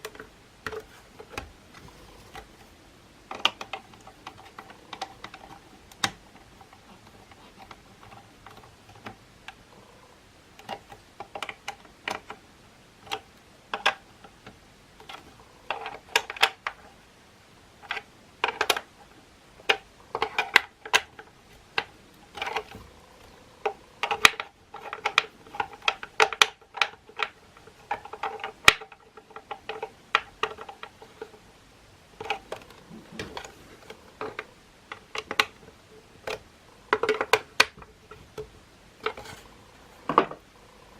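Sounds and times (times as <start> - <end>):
plastic parts clicking and tapping: 0.0 - 2.7, 3.3 - 9.7, 10.5 - 12.4, 13.0 - 17.0, 17.8 - 40.5.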